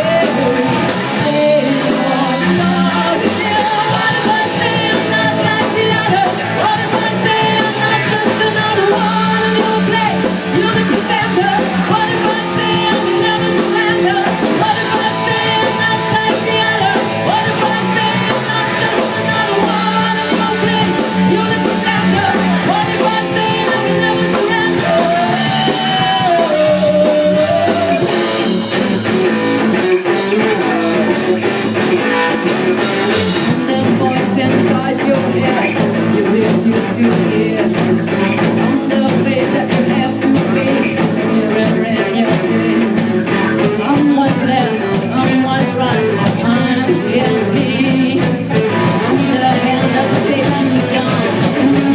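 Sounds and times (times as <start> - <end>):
drums: 0.0 - 51.9
electric guitar: 0.0 - 51.9
person singing: 0.0 - 51.9.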